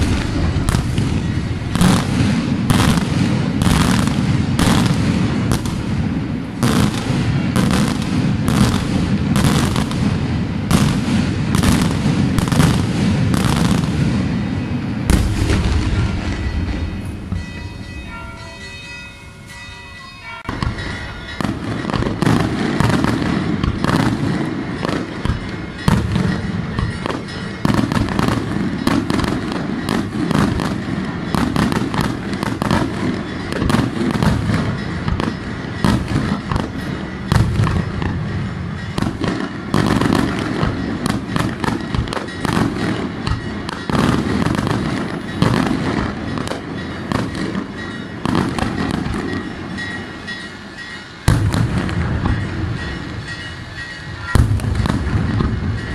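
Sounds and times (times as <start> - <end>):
fireworks cracks and bangs: 0.0 - 55.9.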